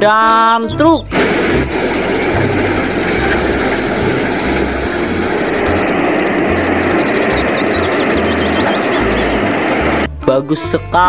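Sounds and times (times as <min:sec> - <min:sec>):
gravel pouring: 0:01.1 - 0:10.1
truck engine running: 0:01.1 - 0:10.1.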